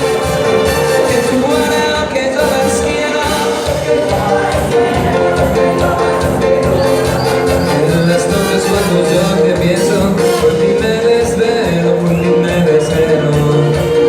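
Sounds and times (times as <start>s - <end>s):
latin band music: 0.0s - 14.0s
person singing: 0.5s - 14.0s.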